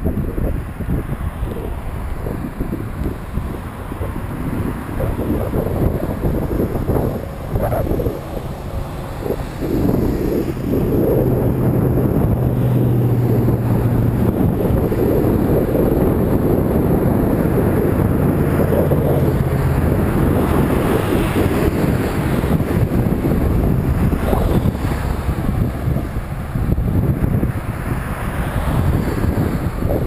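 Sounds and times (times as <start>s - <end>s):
passing vehicle engine hum: 0.0s - 30.0s
road traffic passing: 0.0s - 30.0s
wind buffeting microphone: 0.0s - 30.0s.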